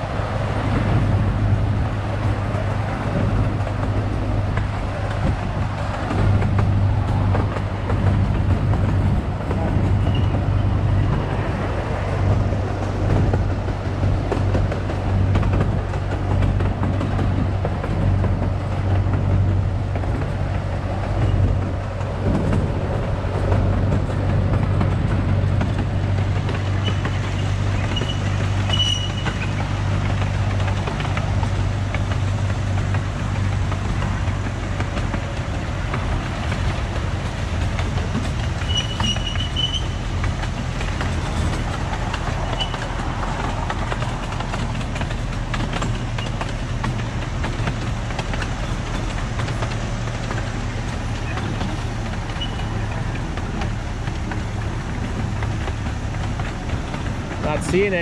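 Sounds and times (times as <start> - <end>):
miniature train rumbling on track: 0.0 - 58.0.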